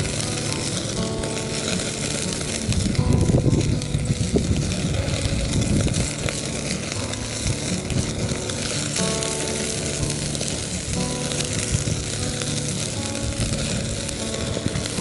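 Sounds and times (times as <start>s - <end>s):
background music: 0.0s - 15.0s
campfire crackling and popping: 0.0s - 15.0s.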